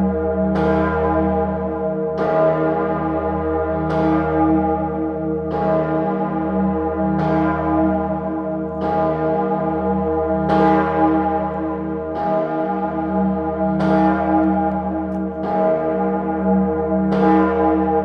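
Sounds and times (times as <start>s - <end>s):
large church bell swinging: 0.0s - 18.0s.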